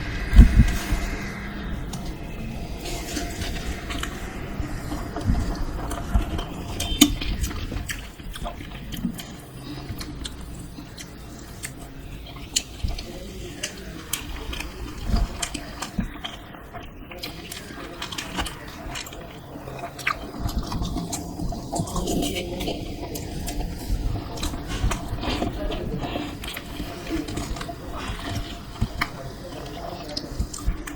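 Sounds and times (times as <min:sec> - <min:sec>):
person crunching and chewing food: 0:00.0 - 0:30.9.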